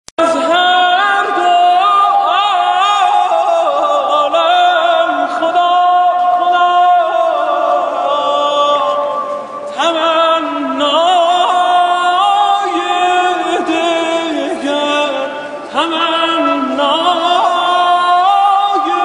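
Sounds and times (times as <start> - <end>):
man singing with reverb: 0.2 - 19.0.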